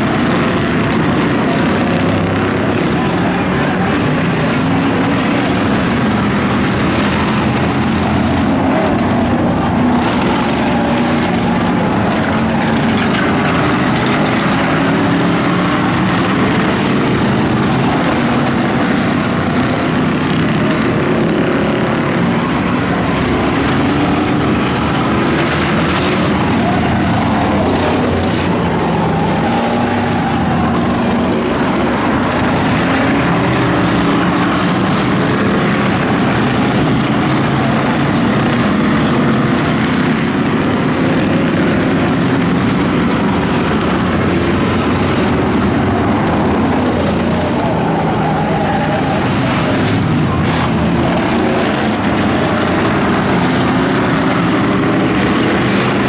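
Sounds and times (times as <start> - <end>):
race car engines droning: 0.0 - 56.0.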